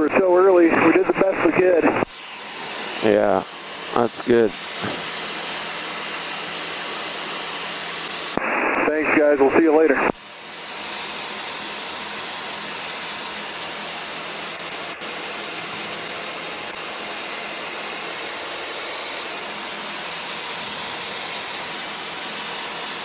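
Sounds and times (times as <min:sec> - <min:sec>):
cockpit engine and airflow hiss: 0:00.0 - 0:23.0.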